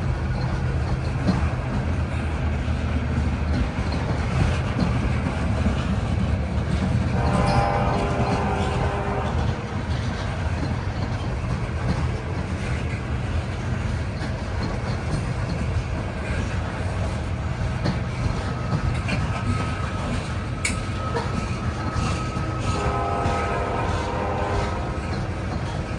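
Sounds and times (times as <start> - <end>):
diesel locomotive drone: 0.0 - 25.9
train wheels rumbling on rail: 0.0 - 25.9.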